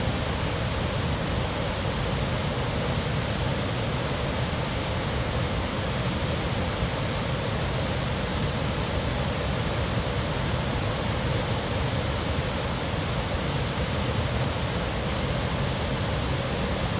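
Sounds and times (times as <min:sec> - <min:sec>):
waterfall rushing over rock: 0:00.0 - 0:16.9.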